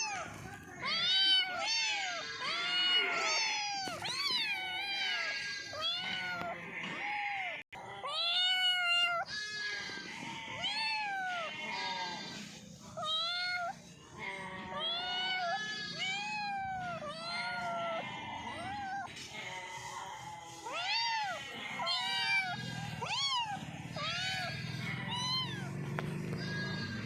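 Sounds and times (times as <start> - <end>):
cats meowing: 0.0 - 27.0.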